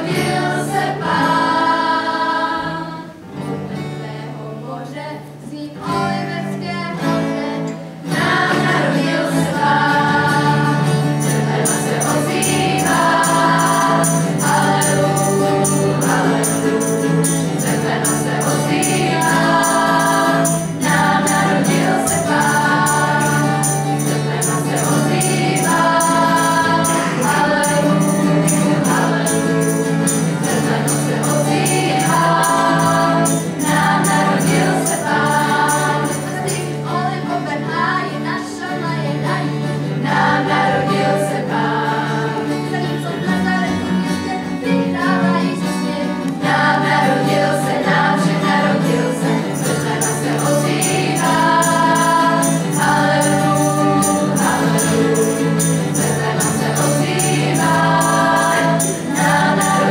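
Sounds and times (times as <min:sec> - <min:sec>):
acoustic guitar: 0:00.0 - 0:59.9
girls' choir singing: 0:00.0 - 0:59.9.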